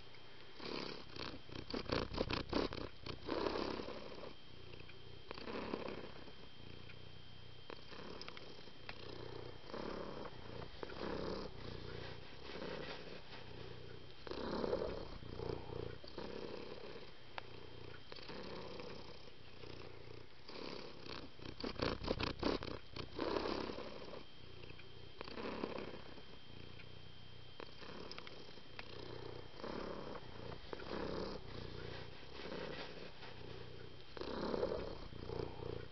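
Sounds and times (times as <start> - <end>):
cat purring: 0.0 - 35.9.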